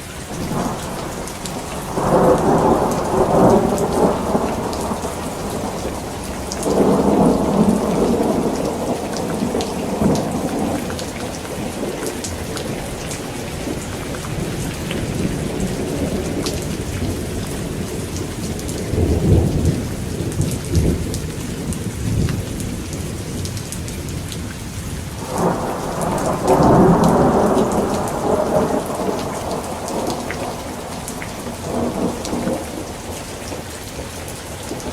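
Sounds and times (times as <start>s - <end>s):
rain falling: 0.0s - 34.9s
thunder rumbling: 0.0s - 34.9s.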